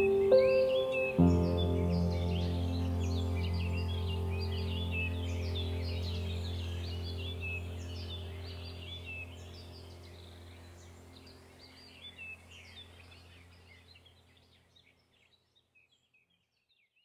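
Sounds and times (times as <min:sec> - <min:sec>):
low steady hum: 0:00.0 - 0:14.4
birds chirping: 0:00.0 - 0:17.0.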